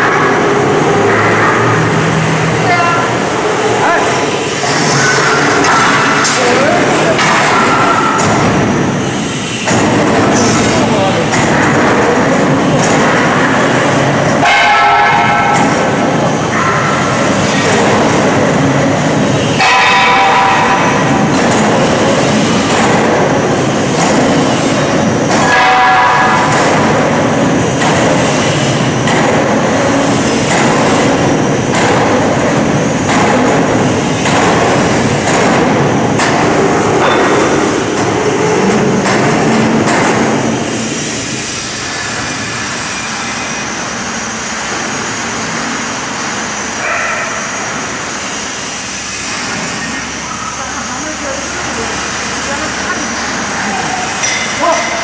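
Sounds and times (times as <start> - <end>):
crane rumbling with clanks: 0.0 - 55.0.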